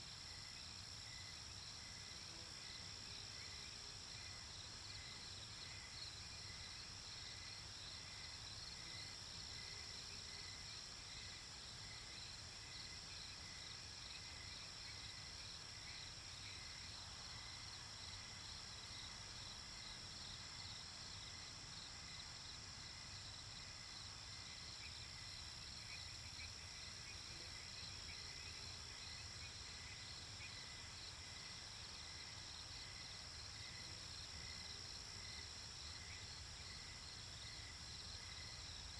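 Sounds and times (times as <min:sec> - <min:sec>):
crickets chirping: 0:00.0 - 0:38.9
white noise hiss: 0:00.0 - 0:38.9.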